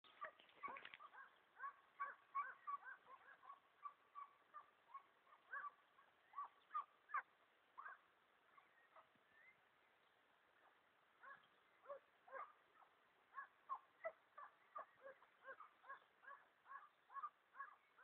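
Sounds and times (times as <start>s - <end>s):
hounds baying: 0.1s - 9.2s, 11.2s - 18.0s.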